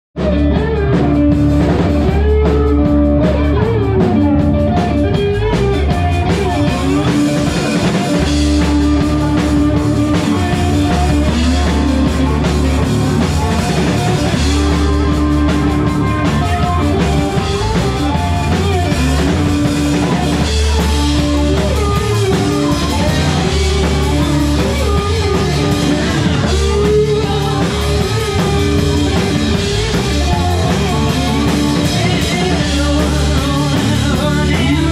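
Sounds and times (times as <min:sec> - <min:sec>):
live rock band playing: 0:00.2 - 0:34.9.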